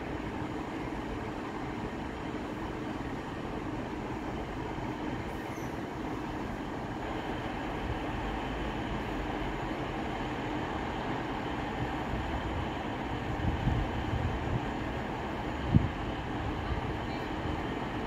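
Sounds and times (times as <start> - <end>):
diesel train engine drone: 0.0 - 18.0.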